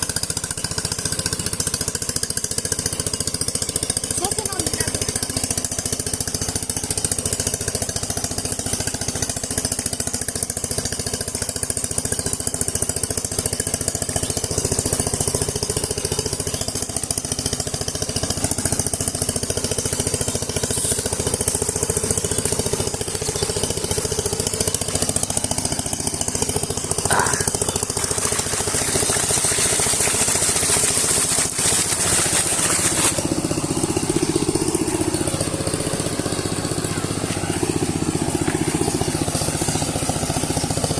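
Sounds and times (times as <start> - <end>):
diesel engine knocking: 0.0 - 40.9.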